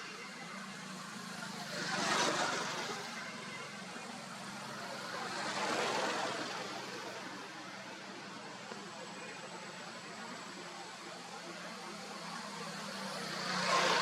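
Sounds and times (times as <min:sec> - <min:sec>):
vehicles passing by: 0:00.0 - 0:14.0.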